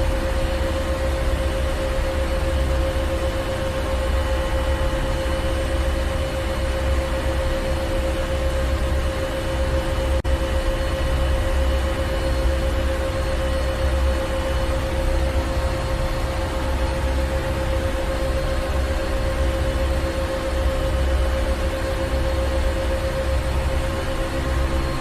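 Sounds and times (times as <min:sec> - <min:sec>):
constant hum tone: 0:00.0 - 0:25.0
engine room machinery rumbling: 0:00.0 - 0:25.0.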